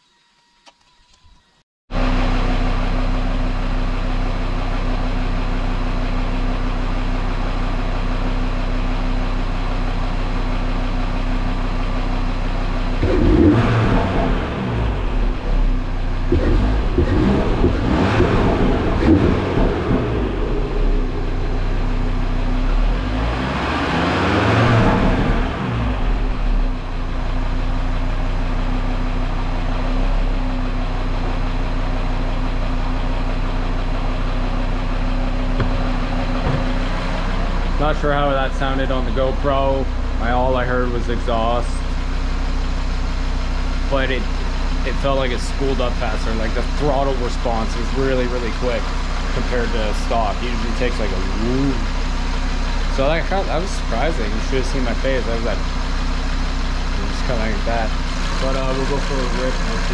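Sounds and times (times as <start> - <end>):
car engine idling and revving: 1.9 - 59.9.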